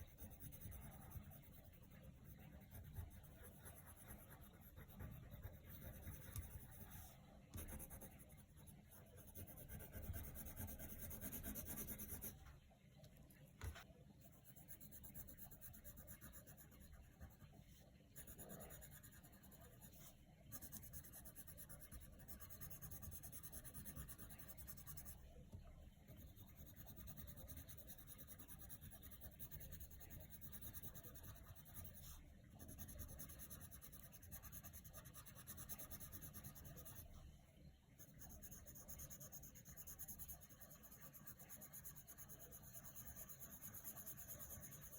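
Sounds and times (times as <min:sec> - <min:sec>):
pencil scratching on paper: 0:00.0 - 0:12.4, 0:13.6 - 0:25.3, 0:26.1 - 0:37.1, 0:38.0 - 0:44.9.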